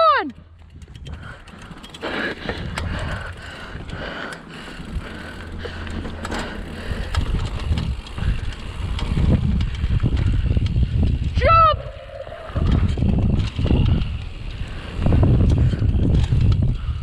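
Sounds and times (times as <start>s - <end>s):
bike clicks and rattles: 0.0s - 17.0s
bike tyre rumble on dirt: 0.4s - 17.0s.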